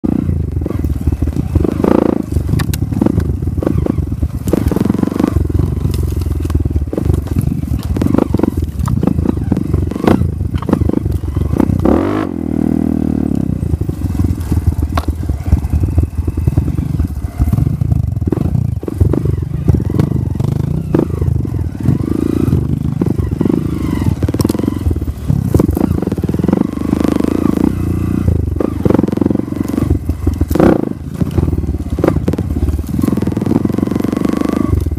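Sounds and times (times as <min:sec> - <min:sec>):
dirt bike engine revving: 0:00.0 - 0:34.9
bike rattling over bumps: 0:00.1 - 0:34.9.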